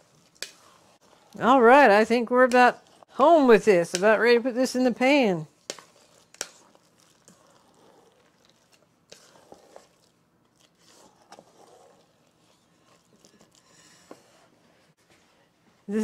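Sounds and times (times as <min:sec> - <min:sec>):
spoon stirring batter: 0:00.0 - 0:15.5.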